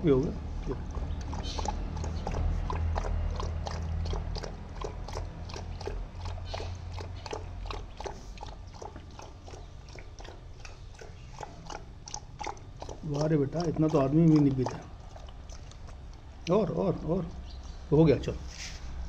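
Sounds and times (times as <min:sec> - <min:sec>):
puppy lapping water: 0:00.0 - 0:17.9.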